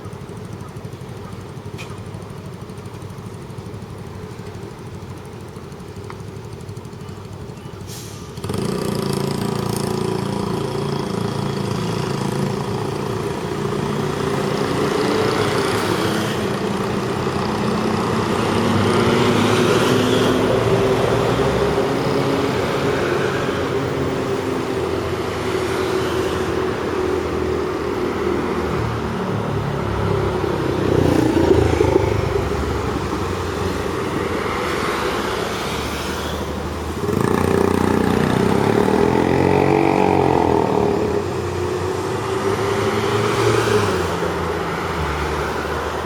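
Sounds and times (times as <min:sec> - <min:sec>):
vehicle engines accelerating: 0:00.0 - 0:46.0.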